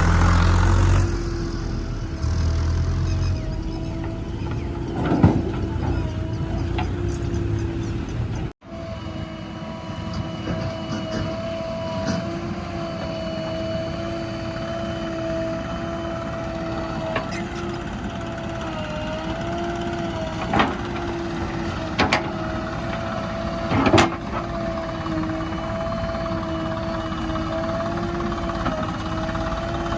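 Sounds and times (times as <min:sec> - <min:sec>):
diesel engine running with whine: 0:00.0 - 0:29.9.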